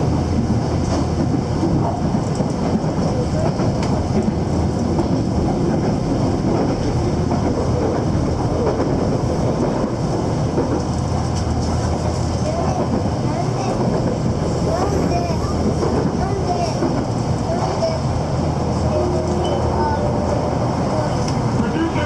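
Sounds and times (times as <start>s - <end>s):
train rumbling and rattling: 0.0s - 22.0s.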